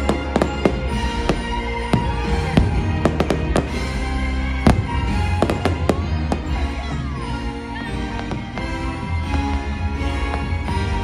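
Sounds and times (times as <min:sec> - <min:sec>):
fireworks bursting: 0:00.0 - 0:11.0
orchestral christmas music: 0:00.0 - 0:11.0.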